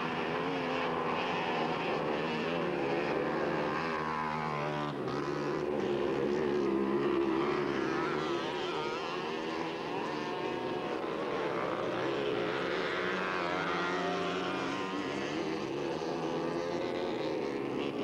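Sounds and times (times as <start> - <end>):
mini bike engines revving: 0.0 - 18.0.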